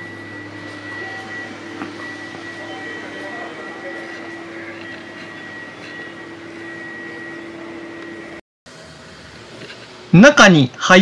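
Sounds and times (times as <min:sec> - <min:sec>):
steady mechanical hum: 0:00.0 - 0:11.0
thin high whine: 0:00.0 - 0:11.0.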